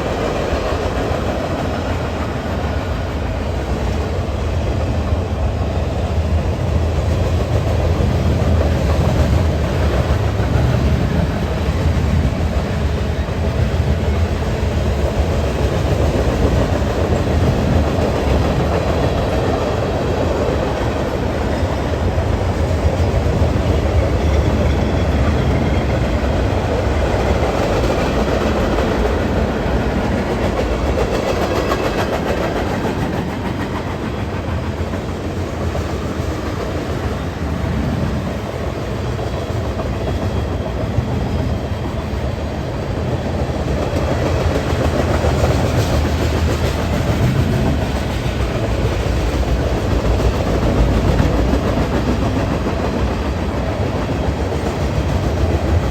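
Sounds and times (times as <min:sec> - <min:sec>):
train cars rumbling past: 0:00.0 - 0:55.9.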